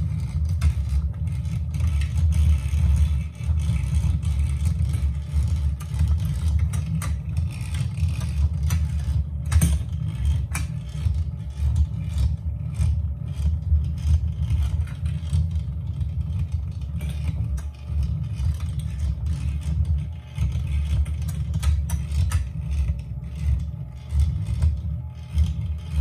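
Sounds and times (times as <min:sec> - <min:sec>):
toy motor and gears humming: 0:00.0 - 0:26.0.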